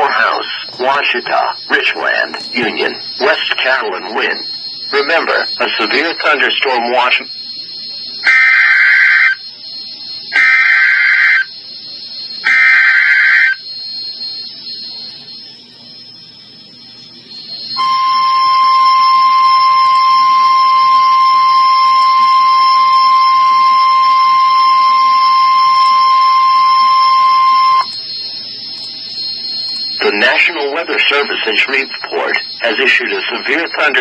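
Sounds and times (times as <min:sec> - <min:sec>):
digital data tone bursts: 0:00.0 - 0:34.0
single-pitch warning alarm tone: 0:00.0 - 0:34.0.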